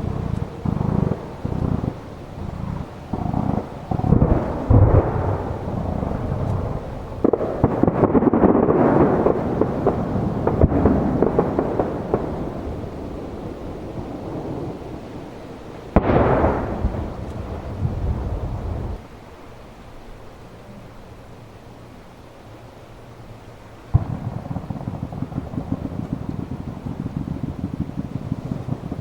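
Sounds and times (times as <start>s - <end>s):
firework booms: 0.0s - 19.1s, 23.9s - 29.0s
firework crackling bursts: 0.0s - 20.1s, 23.3s - 29.0s.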